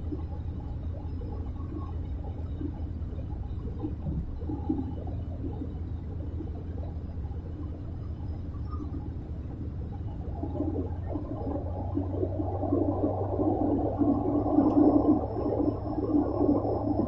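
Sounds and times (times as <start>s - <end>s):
rough wavering rumble: 0.0s - 17.0s
turboprop engine drone: 0.0s - 17.0s.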